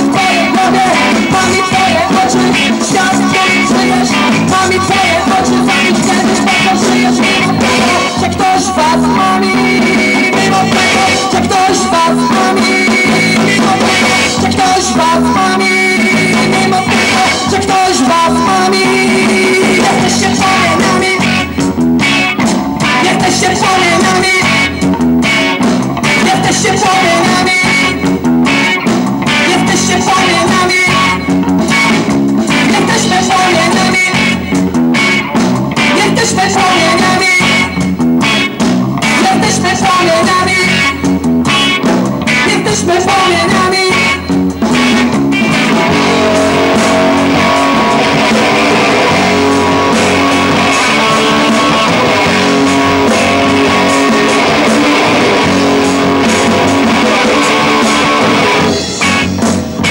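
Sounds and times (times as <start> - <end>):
bass guitar: 0.0 - 59.9
drums: 0.0 - 59.9
electric guitar: 0.0 - 59.9.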